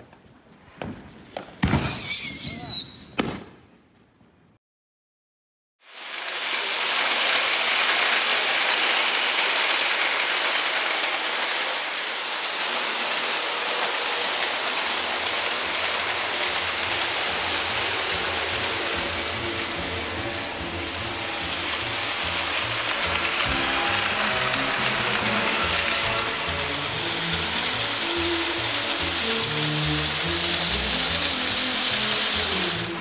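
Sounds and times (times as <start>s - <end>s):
model train wheels rumbling on rails: 5.9s - 33.0s.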